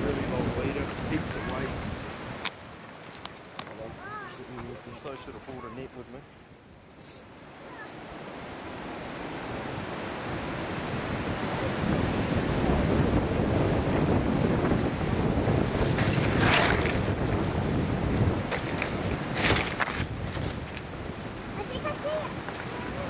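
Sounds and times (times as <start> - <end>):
wind buffeting microphone: 0.0 - 5.6, 8.0 - 23.0.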